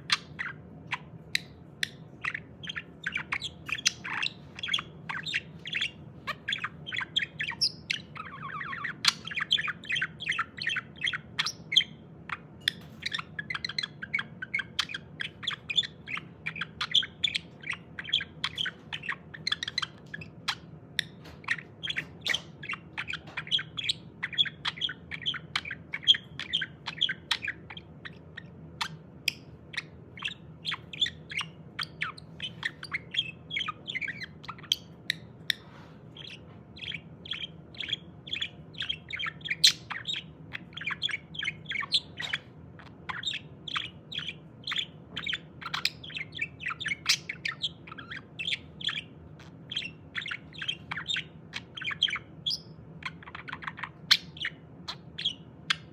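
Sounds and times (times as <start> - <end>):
budgerigar chattering: 0.0 - 55.9.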